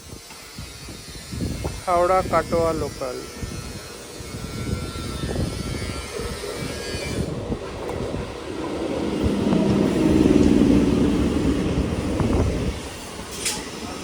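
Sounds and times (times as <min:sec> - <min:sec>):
electric train approaching: 0:00.1 - 0:14.0.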